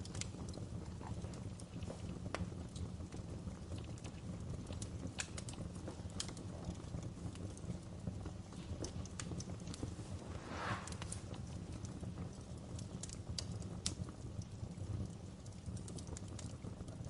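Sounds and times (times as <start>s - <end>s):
fire crackling and popping: 0.0s - 17.0s
fire low rumble: 0.0s - 17.0s.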